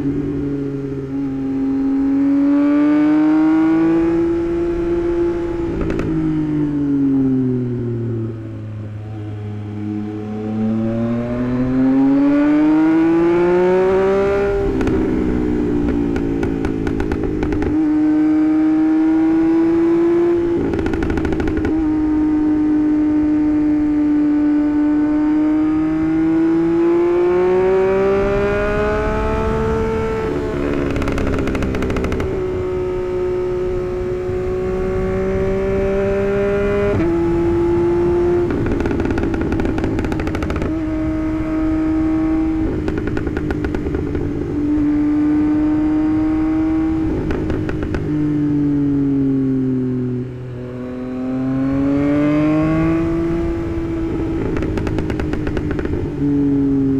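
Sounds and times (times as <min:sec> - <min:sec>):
engine crackling: 0:00.0 - 0:56.9
motorcycle engine revving: 0:00.0 - 0:56.9.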